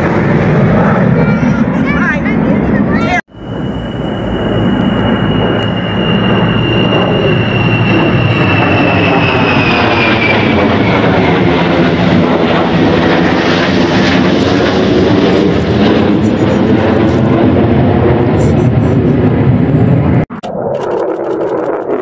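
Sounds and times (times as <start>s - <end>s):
jet engines flying overhead: 0.0s - 22.0s.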